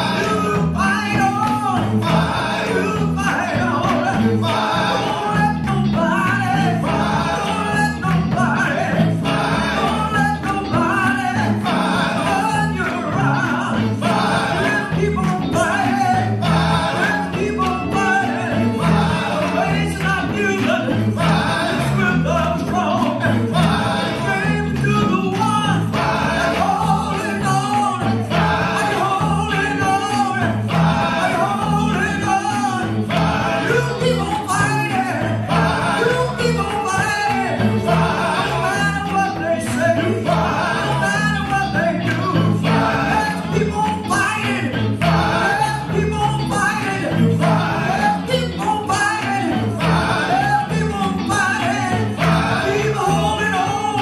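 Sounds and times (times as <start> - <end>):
voices singing: 0.0 - 54.0.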